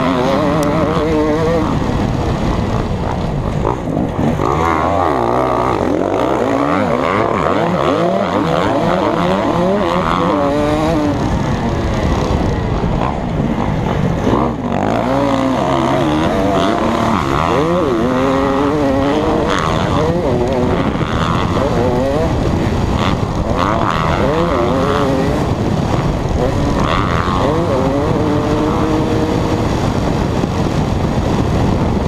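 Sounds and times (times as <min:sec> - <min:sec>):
motocross engine revving: 0:00.0 - 0:32.0.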